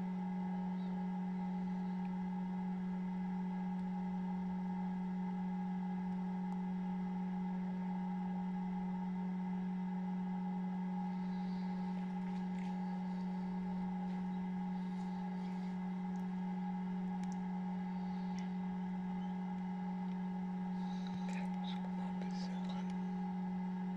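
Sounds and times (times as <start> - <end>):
incubator fan humming: 0.0 - 23.9.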